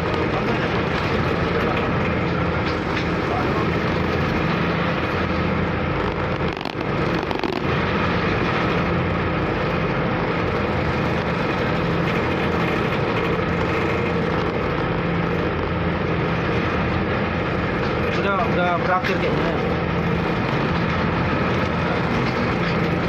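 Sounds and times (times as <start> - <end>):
rushing noise: 0.0 - 23.0
ship engine low drone: 0.0 - 23.0.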